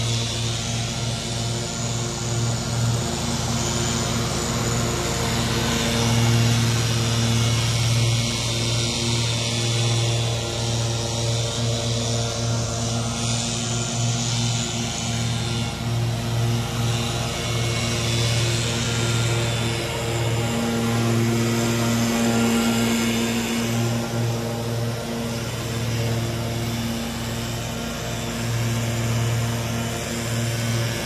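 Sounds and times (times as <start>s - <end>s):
leaf blower rushing air: 0.0s - 31.0s
mower engine: 0.0s - 31.0s.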